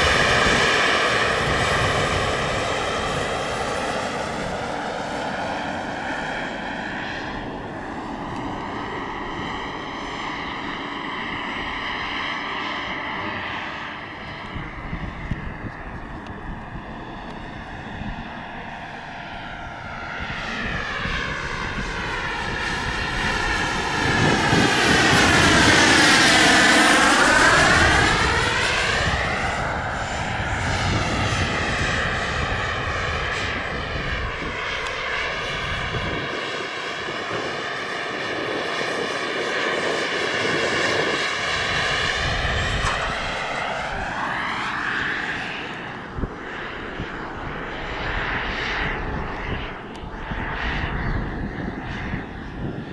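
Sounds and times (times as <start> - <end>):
model helicopter flying by: 0.0 - 52.9.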